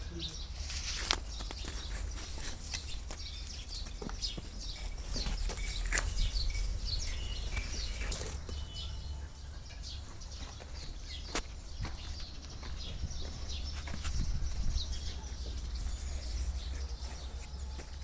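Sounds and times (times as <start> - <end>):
small birds chirping: 0.0 - 18.0
steady low rumble: 1.2 - 18.0.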